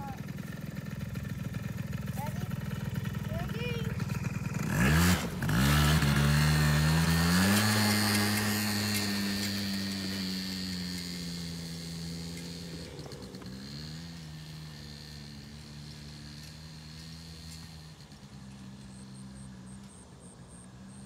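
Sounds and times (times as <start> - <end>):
four-wheeler engine revving: 0.0 - 21.0.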